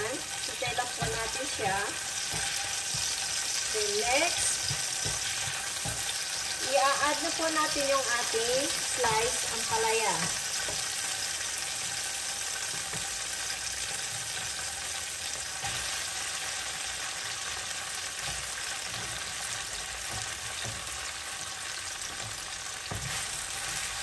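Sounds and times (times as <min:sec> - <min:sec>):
hot oil sizzling in a frying pan: 0:00.0 - 0:24.0.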